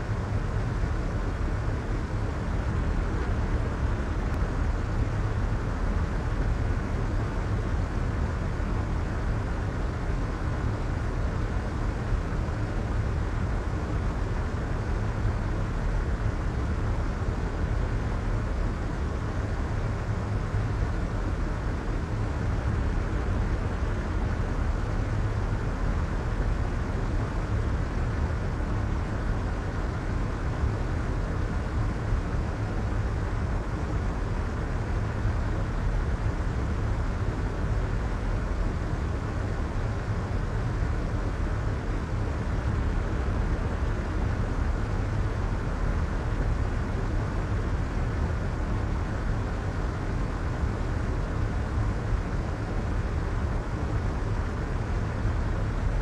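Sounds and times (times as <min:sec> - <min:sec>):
deep white noise hiss: 0:00.0 - 0:56.0.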